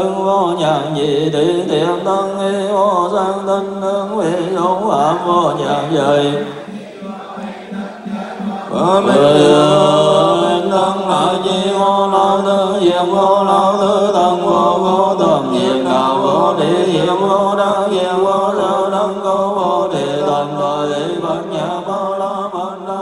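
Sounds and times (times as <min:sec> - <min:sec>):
monks chanting in unison: 0:00.0 - 0:23.0.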